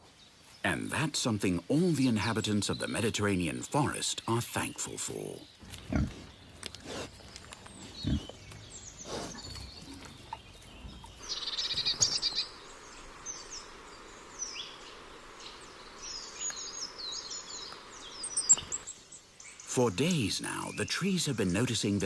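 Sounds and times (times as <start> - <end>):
songbirds trilling and chirping: 0.0 - 22.0.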